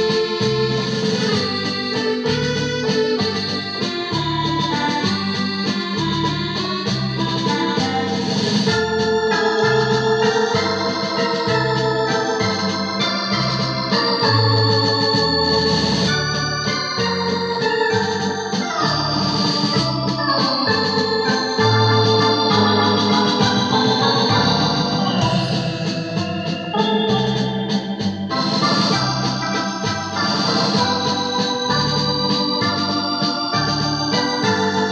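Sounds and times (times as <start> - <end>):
bass line: 0.0 - 34.9
keyboard organ melody and chords: 0.0 - 34.9.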